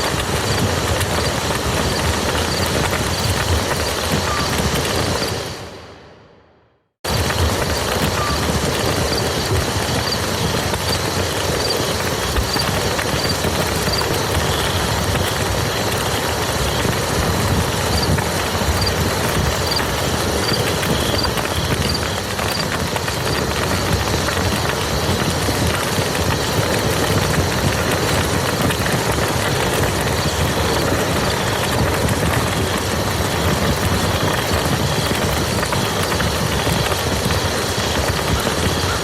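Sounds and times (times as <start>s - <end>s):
heavy rain on a field: 0.0s - 5.8s, 7.0s - 39.0s.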